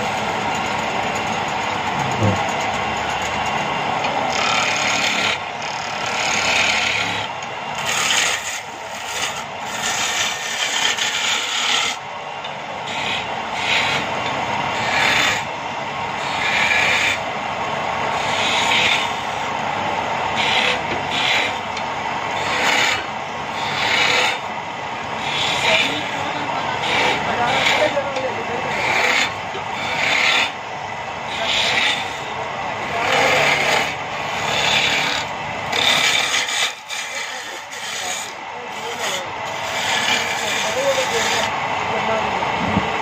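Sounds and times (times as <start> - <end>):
chisel scraping spinning wood: 0.0 - 12.0, 12.8 - 15.5, 16.2 - 17.3, 18.0 - 19.6, 20.3 - 30.6, 31.3 - 41.6
wood lathe humming: 0.0 - 43.0.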